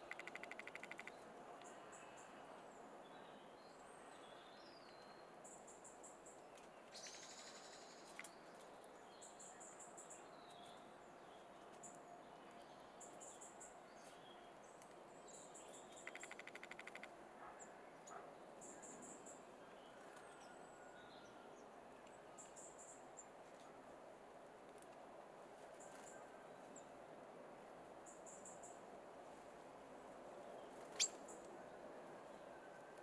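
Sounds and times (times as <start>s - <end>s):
faint songbirds: 0.0s - 24.1s, 27.7s - 33.0s.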